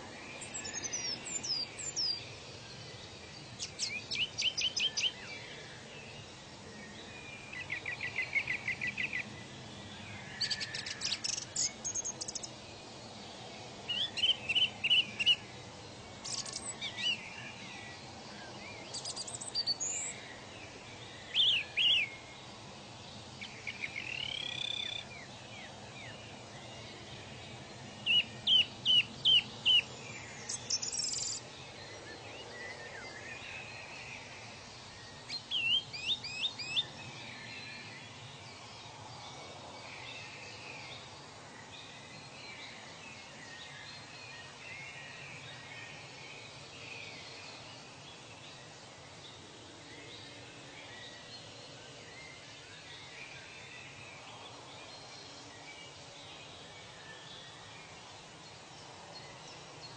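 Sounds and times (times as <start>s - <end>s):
faint outdoor hiss: 0.0s - 59.9s
wild birds chirping and whistling: 0.0s - 59.9s.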